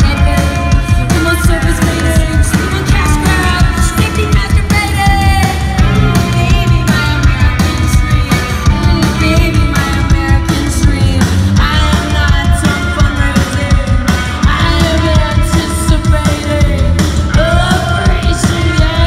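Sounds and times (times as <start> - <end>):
live band playing loud: 0.0 - 19.0
woman singing into microphone: 0.0 - 19.0.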